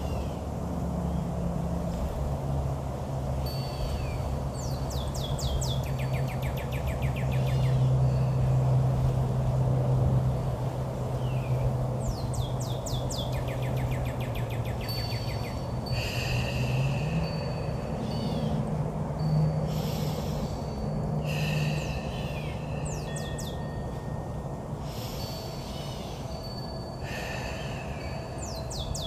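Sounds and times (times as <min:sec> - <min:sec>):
birds singing: 0:00.0 - 0:01.5, 0:03.4 - 0:09.2, 0:10.2 - 0:29.0
steady low hum: 0:00.0 - 0:29.0.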